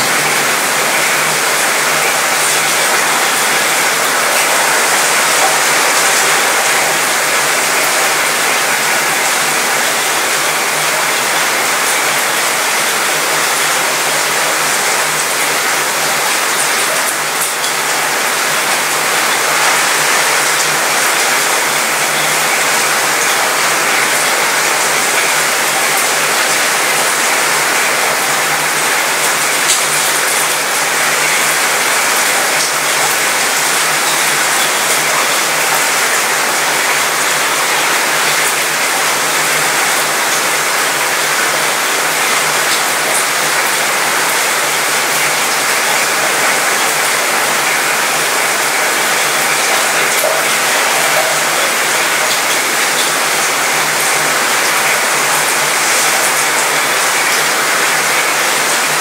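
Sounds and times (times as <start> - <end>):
rain on metal balcony: 0.0 - 59.0.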